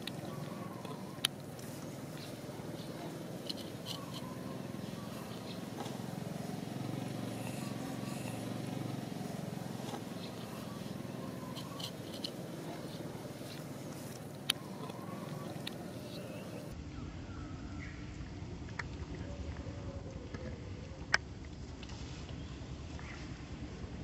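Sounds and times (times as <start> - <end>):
low outdoor rumble: 0.0 - 21.8.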